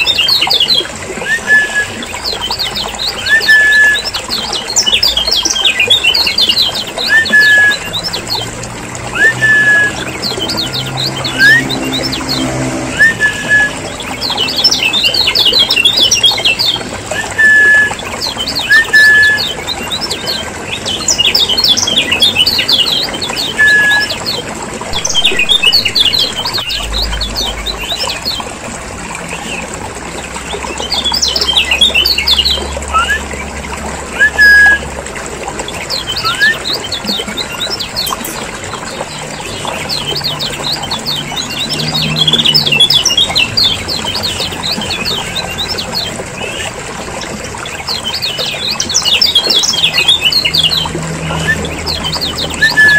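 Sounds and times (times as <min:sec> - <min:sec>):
birds chattering: 0:00.0 - 0:34.5, 0:35.1 - 0:52.9.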